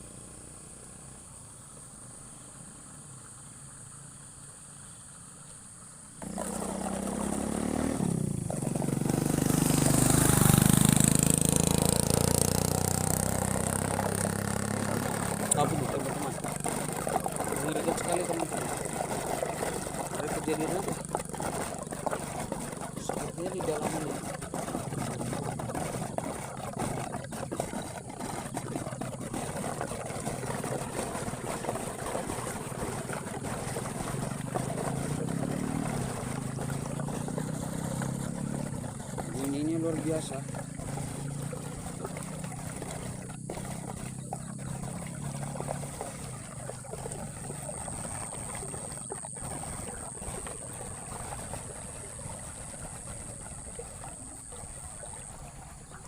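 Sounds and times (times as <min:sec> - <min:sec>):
engine starting and revving: 0:06.2 - 0:55.8
rushing floodwater: 0:06.2 - 0:56.0.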